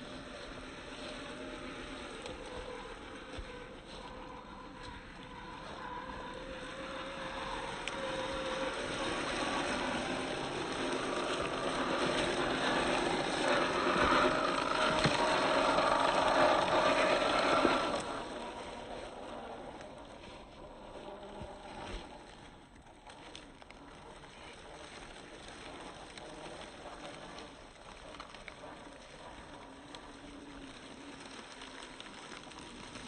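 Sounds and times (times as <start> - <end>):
tyres on the ground: 0.0 - 28.6
electric motor whine: 0.0 - 33.0.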